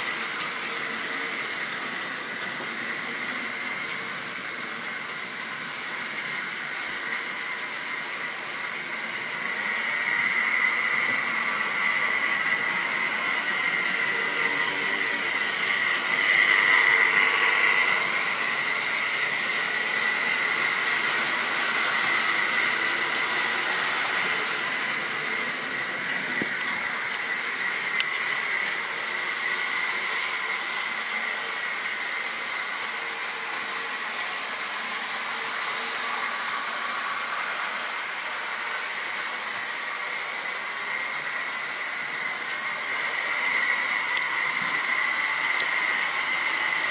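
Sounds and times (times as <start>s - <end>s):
wheels rolling on rails: 0.0s - 32.7s, 41.1s - 46.9s
model train motor whine: 0.0s - 46.9s.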